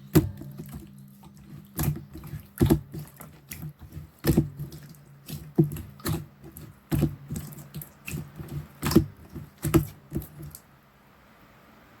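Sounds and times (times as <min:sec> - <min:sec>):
slime squished by hand: 0:00.0 - 0:10.6.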